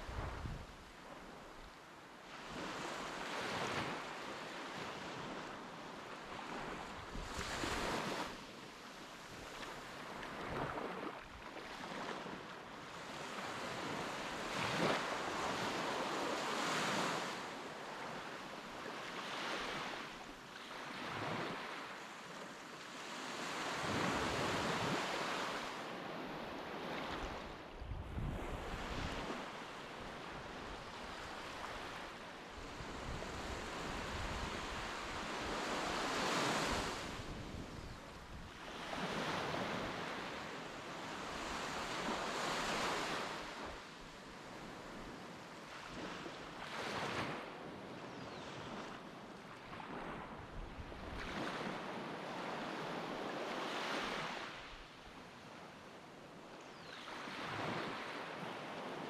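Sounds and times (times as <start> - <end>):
wind: 0.0 - 59.0.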